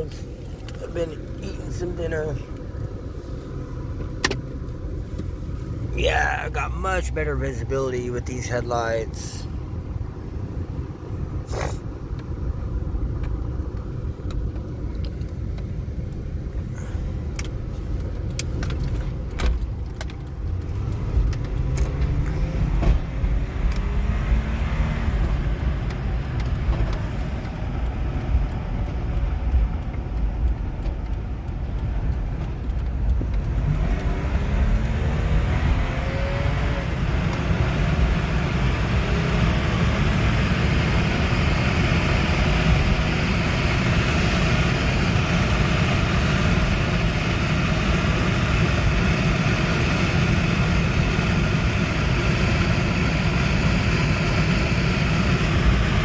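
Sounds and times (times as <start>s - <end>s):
car engine drone: 0.0s - 56.0s
tyre and road noise: 0.0s - 56.0s.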